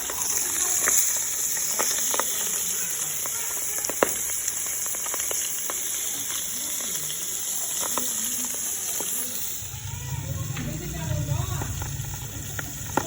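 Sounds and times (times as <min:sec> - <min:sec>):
fish sizzling in hot oil: 0:00.0 - 0:13.0
oil popping and crackling: 0:00.0 - 0:13.0.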